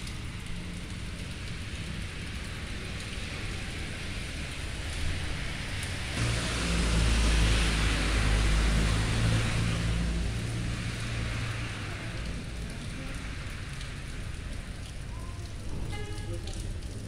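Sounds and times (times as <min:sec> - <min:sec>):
steady rain: 0:00.0 - 0:17.0
vehicle passing on wet street: 0:00.0 - 0:17.0.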